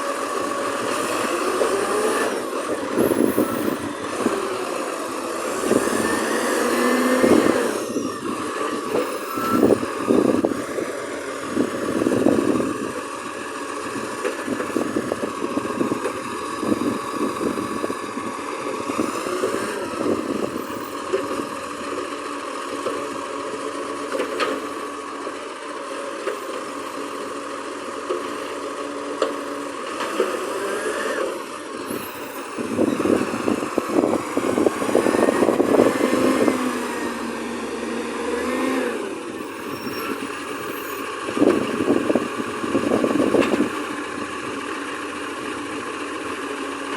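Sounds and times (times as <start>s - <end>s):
garbage truck engine running: 0.0s - 46.9s.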